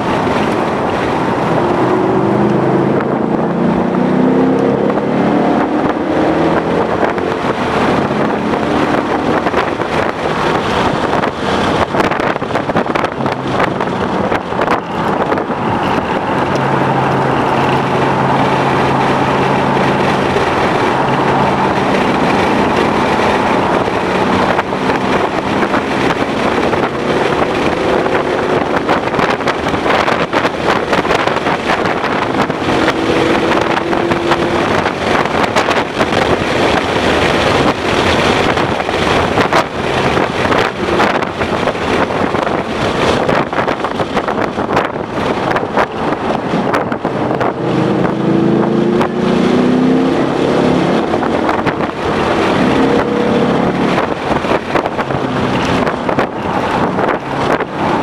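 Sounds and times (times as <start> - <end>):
car engine revving: 0.0 - 58.0
wind and road noise: 0.0 - 58.0.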